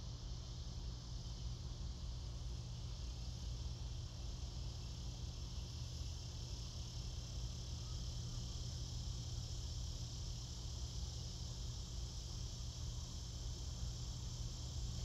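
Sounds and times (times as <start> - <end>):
insect chorus buzzing trill: 0.0 - 15.0.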